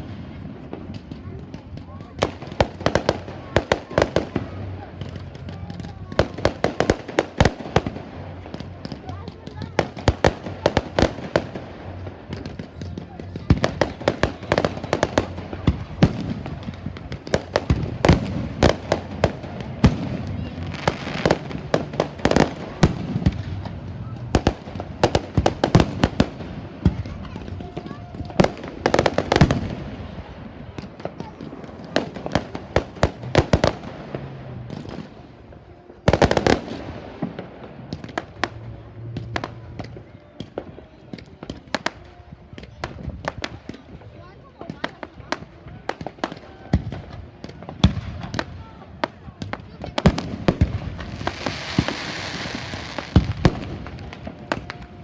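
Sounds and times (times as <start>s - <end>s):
background rumble: 0.0s - 55.0s
fireworks bangs and pops: 0.0s - 55.0s.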